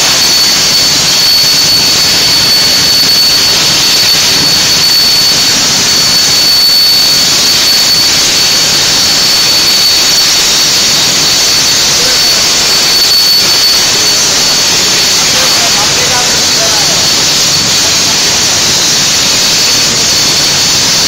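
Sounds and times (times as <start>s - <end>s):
plasma torch cutting metal: 0.0s - 21.0s.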